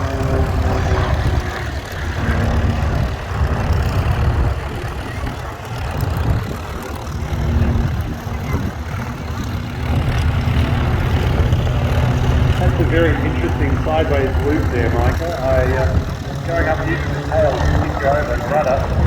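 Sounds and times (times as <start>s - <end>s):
propeller plane engine: 0.0s - 19.0s.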